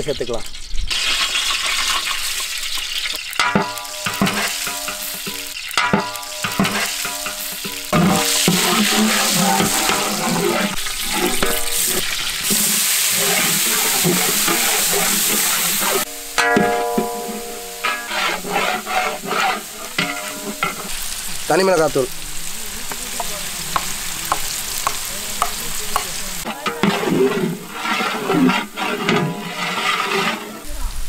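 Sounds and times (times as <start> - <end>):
spices sizzling in hot oil: 0.0 - 31.0
metal spoon scraping pan: 0.9 - 21.1, 23.8 - 30.8.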